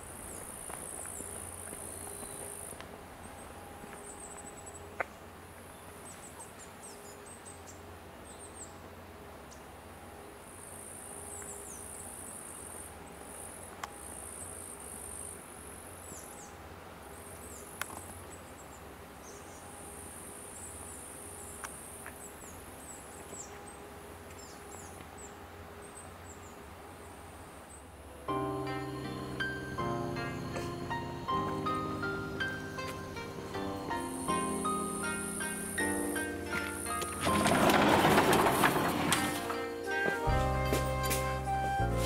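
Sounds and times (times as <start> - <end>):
insects chirring: 0.0 - 7.8, 10.4 - 41.6.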